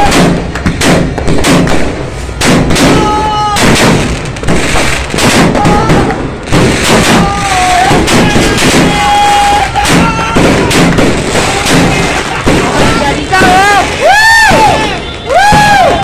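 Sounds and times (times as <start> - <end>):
fireworks bangs and crackling: 0.0 - 16.0
fireworks whistling: 0.0 - 16.0.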